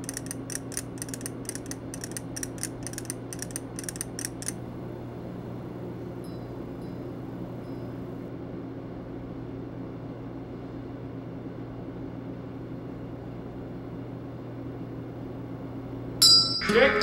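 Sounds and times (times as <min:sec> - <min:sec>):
low hum of kitchen machinery: 0:00.0 - 0:17.0.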